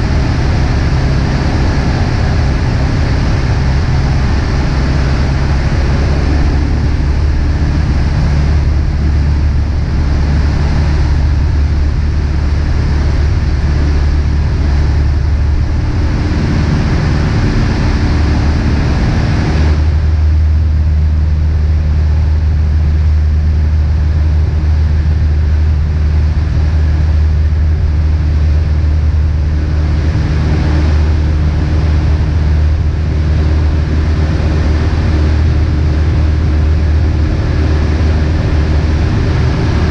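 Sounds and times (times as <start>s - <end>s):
airplane engine and propeller drone: 0.0s - 39.9s
rush of air: 0.0s - 39.9s.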